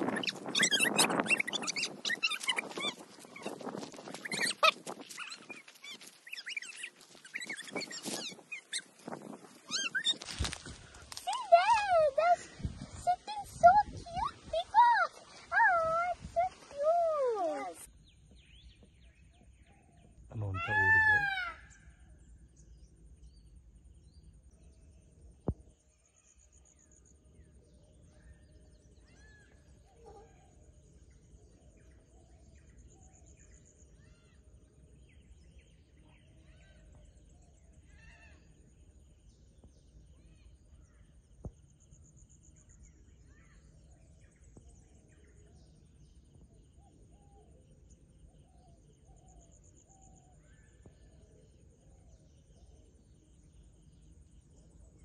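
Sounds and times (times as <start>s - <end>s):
distant bird chirps: 0.0s - 55.0s.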